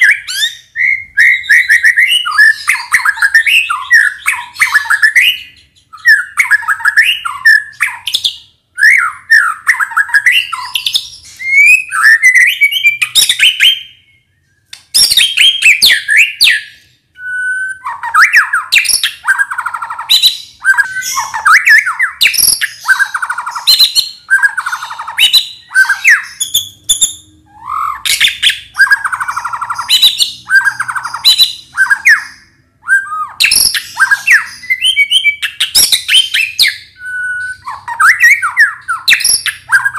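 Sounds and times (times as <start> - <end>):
songbird singing whistled trills: 0.0 - 39.9.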